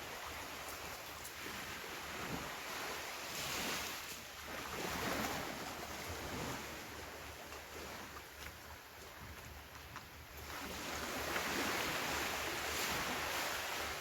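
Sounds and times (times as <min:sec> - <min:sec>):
ocean waves breaking on beach: 0:00.0 - 0:14.0
wind on microphone: 0:00.0 - 0:14.0.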